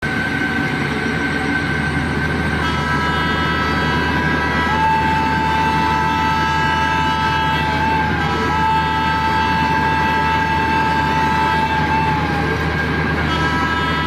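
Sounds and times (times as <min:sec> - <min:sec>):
train rumbling: 0:00.0 - 0:14.0
high held tones: 0:00.5 - 0:14.0.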